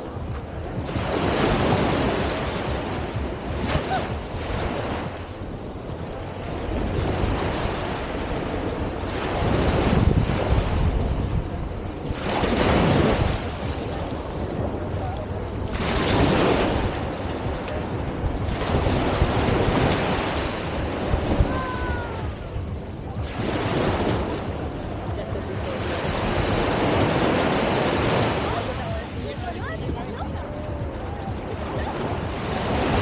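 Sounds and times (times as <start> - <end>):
surf breaking on beach: 0.0 - 33.0
wind buffeting microphone: 0.0 - 33.0.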